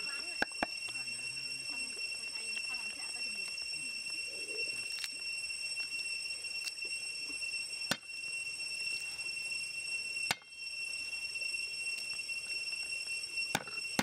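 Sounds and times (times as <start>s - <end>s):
high-pitched drone: 0.0s - 14.0s.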